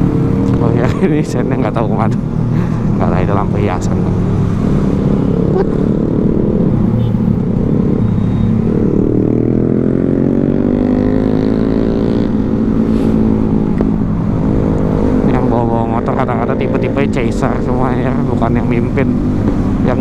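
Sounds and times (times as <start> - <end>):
motorcycle engine accelerating: 3.9 - 20.0.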